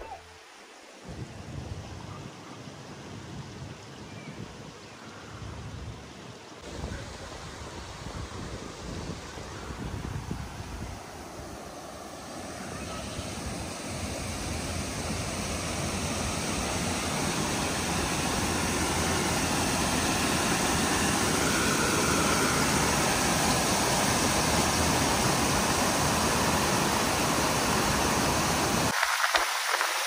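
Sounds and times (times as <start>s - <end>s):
creek water rushing: 0.0s - 5.5s, 6.1s - 30.0s.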